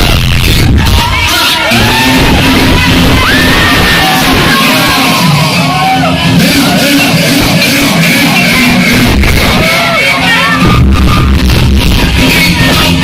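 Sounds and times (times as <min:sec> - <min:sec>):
loud music: 0:00.0 - 0:13.0
swooping synth tones: 0:00.0 - 0:13.0.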